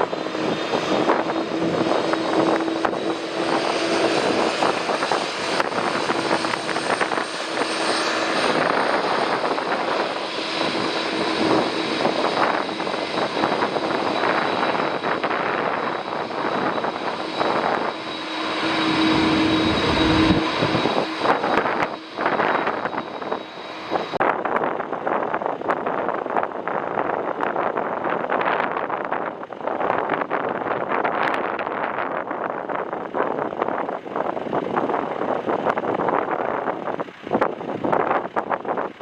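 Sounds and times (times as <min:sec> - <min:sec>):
jet engines whining: 0:00.0 - 0:39.0
wind buffeting microphone: 0:00.0 - 0:39.0.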